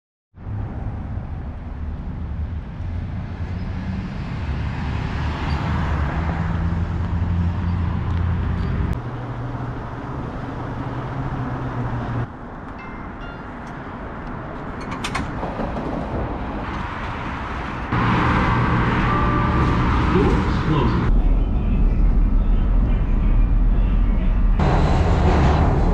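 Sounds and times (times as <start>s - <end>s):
rail car hum: 0.4s - 25.9s
road traffic rumble: 0.4s - 25.9s.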